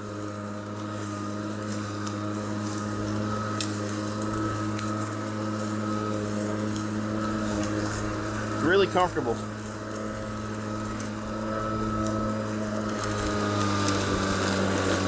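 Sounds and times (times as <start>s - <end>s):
electric lawn mower humming: 0.0s - 15.0s.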